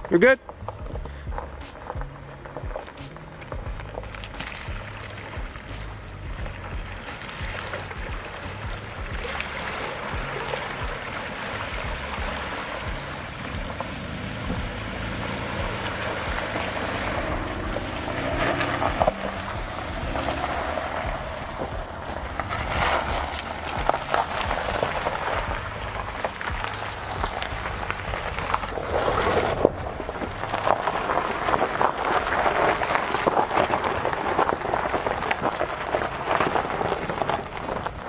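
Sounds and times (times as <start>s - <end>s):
car engine running: 0.0s - 38.0s
water sloshing around tyres: 0.0s - 38.0s.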